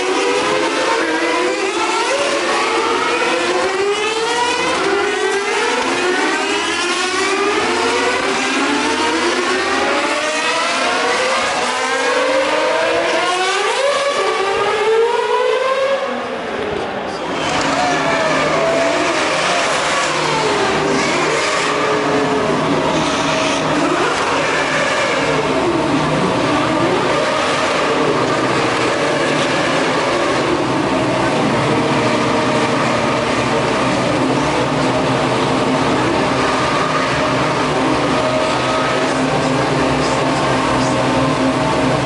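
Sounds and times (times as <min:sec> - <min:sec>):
racing car engines revving: 0:00.0 - 0:42.0.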